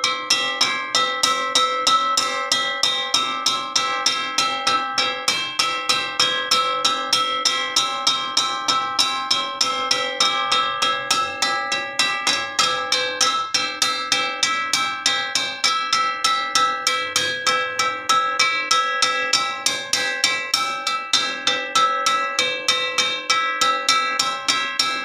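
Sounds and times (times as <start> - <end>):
metal wok struck ringing: 0.0 - 25.0.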